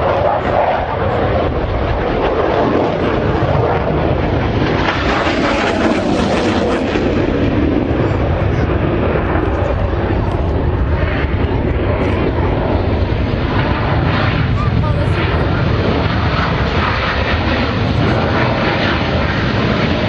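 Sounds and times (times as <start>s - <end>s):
jet engines flying past: 0.0s - 20.0s.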